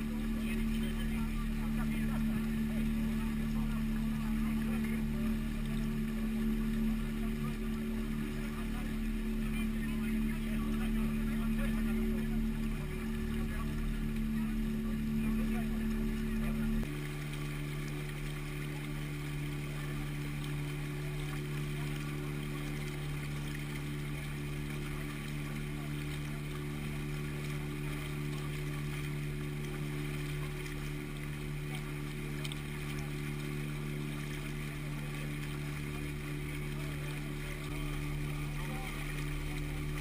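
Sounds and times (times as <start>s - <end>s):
motorboat engine humming: 0.0s - 40.0s
water rushing along hull: 0.0s - 40.0s.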